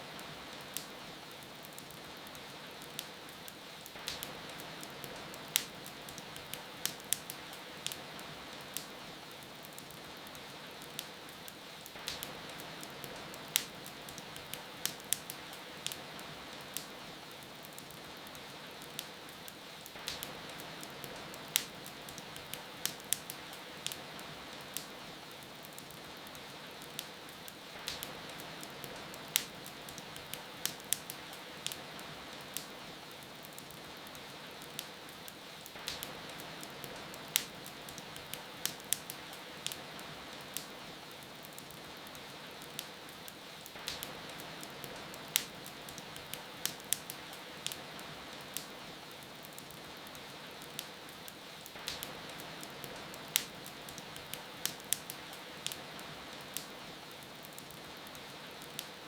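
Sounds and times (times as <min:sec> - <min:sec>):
fire crackling and popping: 0:00.0 - 0:59.0
steady rain: 0:00.0 - 0:59.0.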